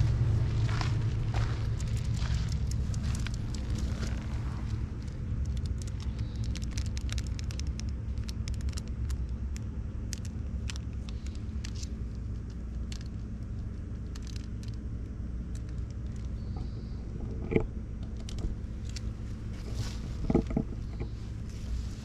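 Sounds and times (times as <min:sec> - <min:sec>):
low rumble: 0:00.0 - 0:22.0
sharp clicks and crackles: 0:00.6 - 0:21.6.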